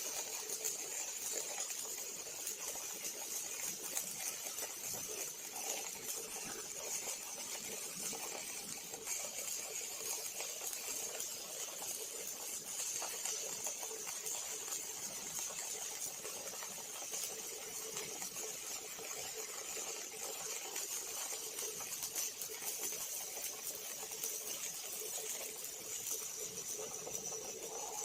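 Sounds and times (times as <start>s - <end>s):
arc welding crackling hiss: 0.0s - 28.0s.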